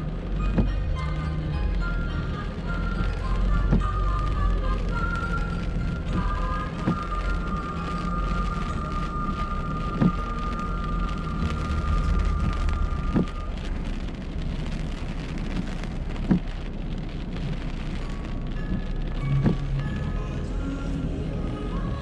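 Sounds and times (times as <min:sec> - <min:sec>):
low road rumble: 0:00.0 - 0:22.0
rain pattering on car: 0:00.0 - 0:22.0.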